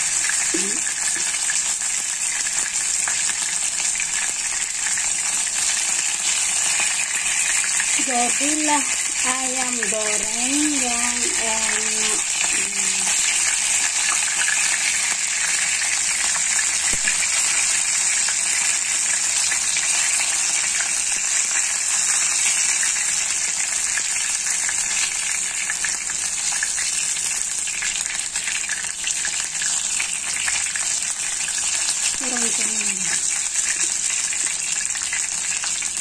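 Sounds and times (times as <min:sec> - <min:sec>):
chicken wings sizzling in hot oil: 0:00.0 - 0:36.0.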